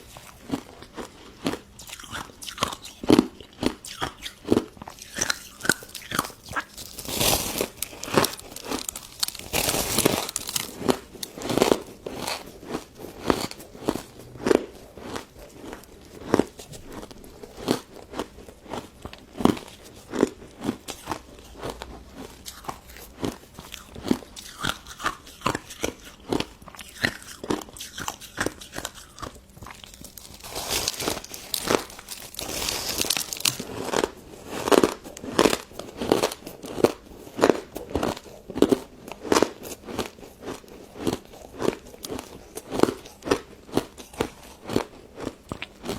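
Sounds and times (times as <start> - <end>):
crunching and chewing ice dessert: 0.0 - 45.9.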